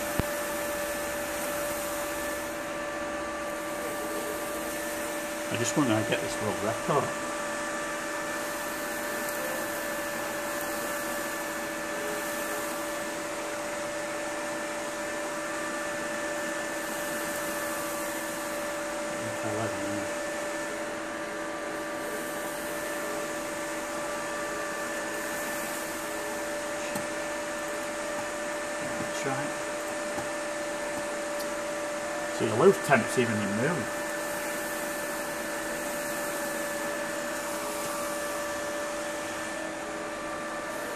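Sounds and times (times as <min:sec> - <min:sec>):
cooling fans whirring: 0:00.0 - 0:40.9
liquid nitrogen boiling: 0:00.0 - 0:40.9.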